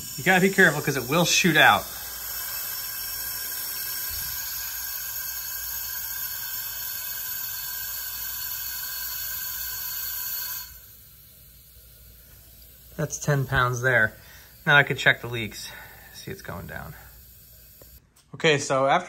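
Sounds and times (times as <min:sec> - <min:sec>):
compressed air hissing through hose: 0:00.0 - 0:18.0.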